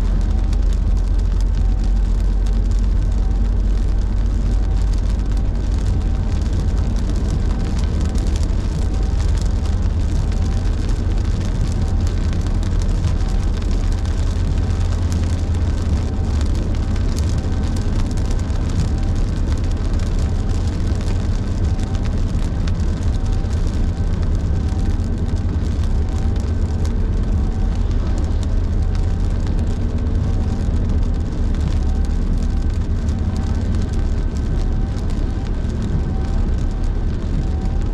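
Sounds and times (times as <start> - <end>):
rain hissing on car: 0.0 - 37.9
road and tyre rumble: 0.0 - 37.9.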